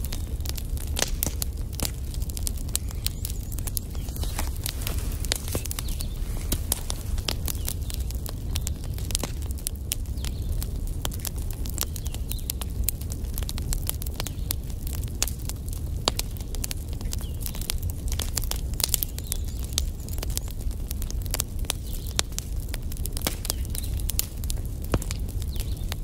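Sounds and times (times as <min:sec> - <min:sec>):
low rumble of flames: 0:00.0 - 0:26.0
wood fire crackling: 0:00.0 - 0:26.0.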